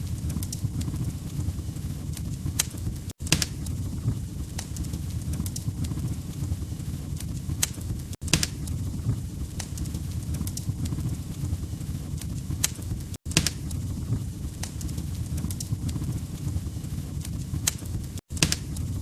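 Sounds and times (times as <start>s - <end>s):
log fire crackling: 0.0s - 19.0s.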